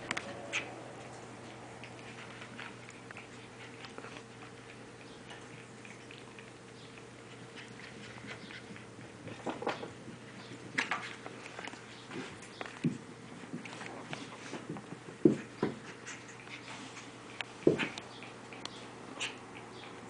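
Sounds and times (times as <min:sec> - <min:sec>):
dogs scuffling on carpet: 0:00.1 - 0:06.4, 0:07.1 - 0:18.6.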